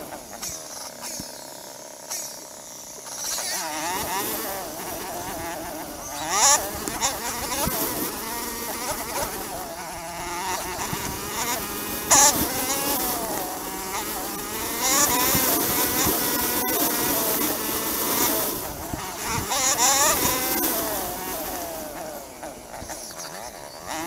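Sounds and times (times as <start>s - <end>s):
dirt bike engine revving: 0.0s - 24.0s
loud engine bursts: 0.0s - 24.0s.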